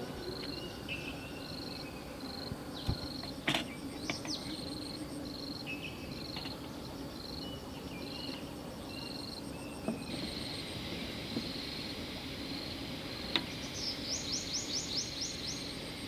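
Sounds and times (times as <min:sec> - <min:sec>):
insect chirping: 0:00.0 - 0:16.0
steady outdoor hiss: 0:00.0 - 0:16.0.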